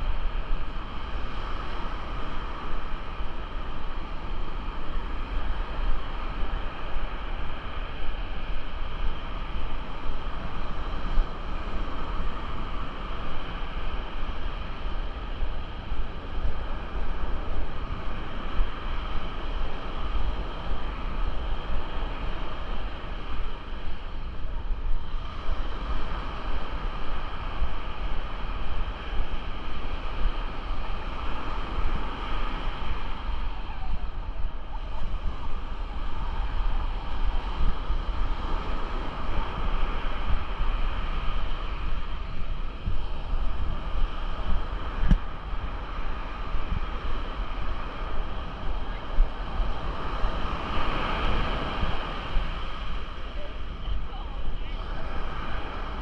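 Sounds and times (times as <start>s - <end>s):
ocean surf on beach: 0.0s - 56.0s
wind buffeting microphone: 0.0s - 56.0s.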